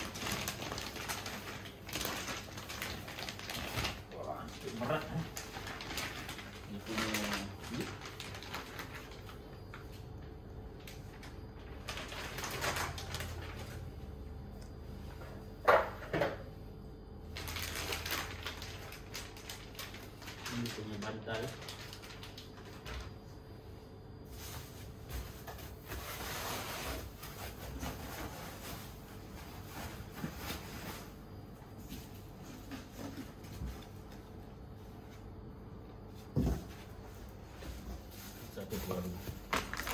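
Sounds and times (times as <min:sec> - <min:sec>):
plastic wrapping crinkling: 0:00.0 - 0:14.0, 0:17.2 - 0:23.3, 0:24.3 - 0:34.4, 0:36.4 - 0:39.9.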